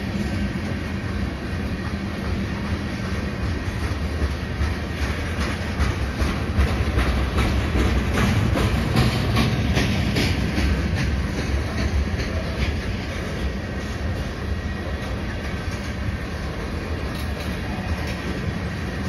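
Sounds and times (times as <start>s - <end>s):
train wheels rumbling on rails: 0.0s - 19.0s
wheels clicking over rail joints: 0.3s - 19.0s.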